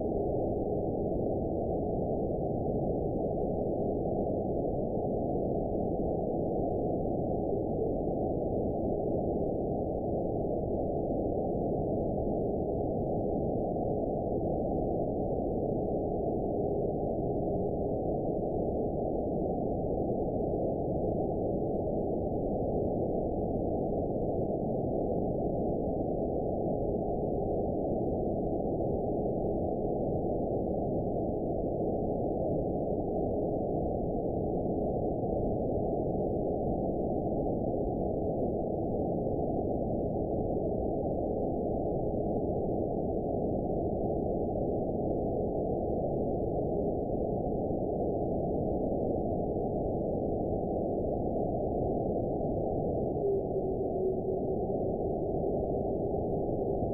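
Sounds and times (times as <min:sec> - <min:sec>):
faint steady tones: 0:00.0 - 0:56.9.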